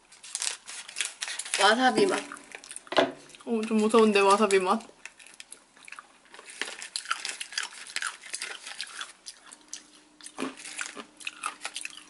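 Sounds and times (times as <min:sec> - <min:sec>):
foil snack pouch crinkling: 0:00.0 - 0:05.6, 0:06.2 - 0:12.0
almonds being crunched and chewed: 0:00.2 - 0:12.0.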